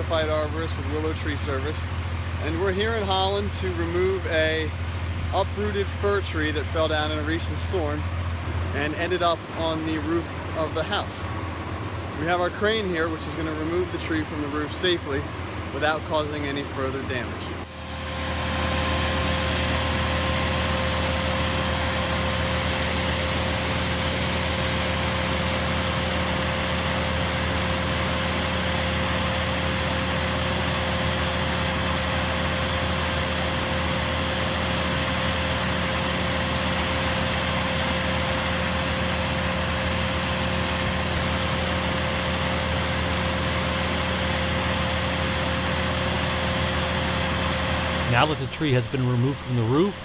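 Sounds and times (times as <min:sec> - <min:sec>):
crane engine running with whine: 0:00.0 - 0:50.0.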